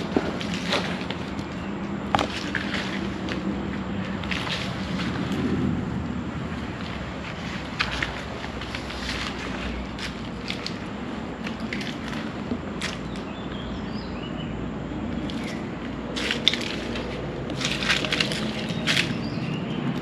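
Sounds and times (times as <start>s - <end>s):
footsteps crunching on dry leaves: 0.0s - 5.8s, 6.4s - 13.2s, 15.2s - 20.0s.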